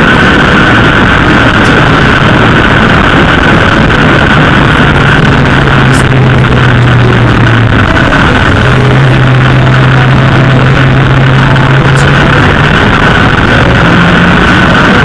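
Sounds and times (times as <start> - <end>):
motorcycle engine: 0.0 - 15.0
wind rush on microphone: 0.0 - 15.0.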